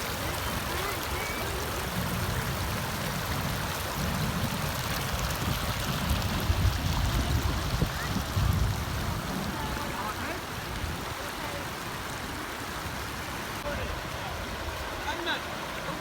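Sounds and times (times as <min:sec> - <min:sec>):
water rushing in a stream: 0:00.0 - 0:16.0.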